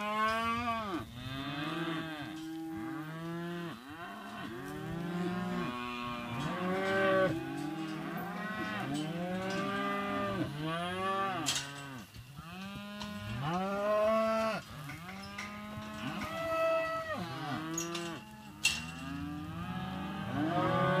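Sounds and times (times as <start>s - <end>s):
cattle mooing: 0.0s - 21.0s.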